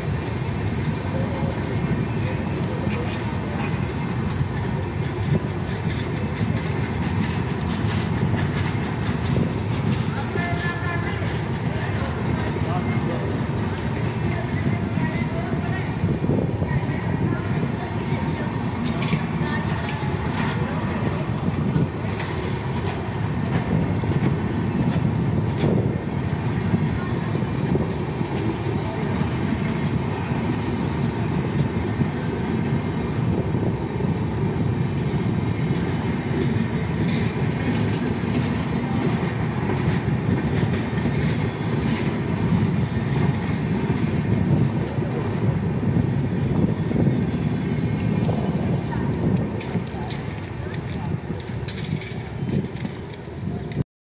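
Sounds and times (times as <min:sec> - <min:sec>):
train wheels rumbling on rails: 0:00.0 - 0:53.8.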